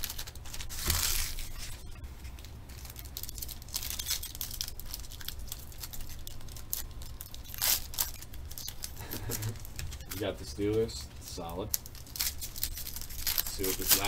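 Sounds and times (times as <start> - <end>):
foil wrappers crinkling: 0.0 - 14.0.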